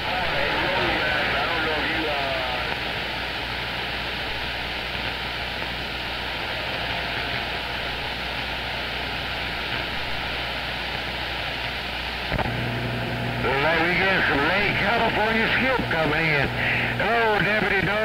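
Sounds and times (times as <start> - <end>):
low hum: 0.0 - 17.1
radio static hiss: 0.0 - 18.0.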